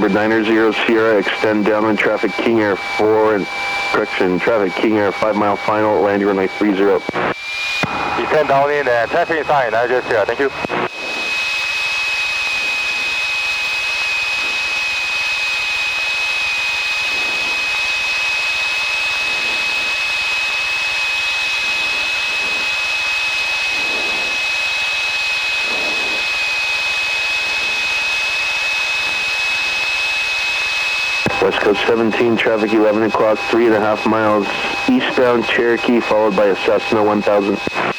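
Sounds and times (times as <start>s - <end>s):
aircraft engine and propeller droning: 0.0s - 37.9s
high-pitched whine: 0.0s - 37.9s.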